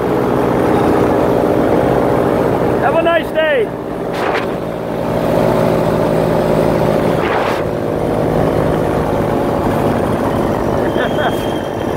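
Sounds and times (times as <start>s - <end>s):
paramotor engine and propeller drone: 0.0s - 11.9s.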